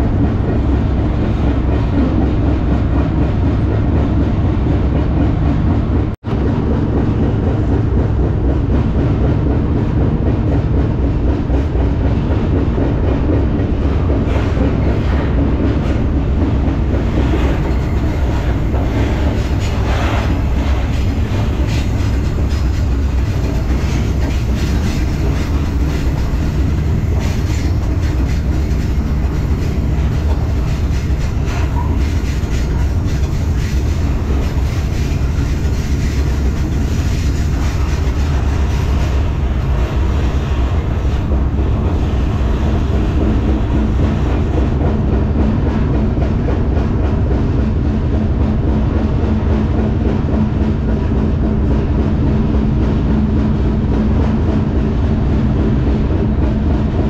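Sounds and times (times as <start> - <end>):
rail car rattling: 0.0 - 57.0
train wheels rumbling on rail: 0.0 - 57.0.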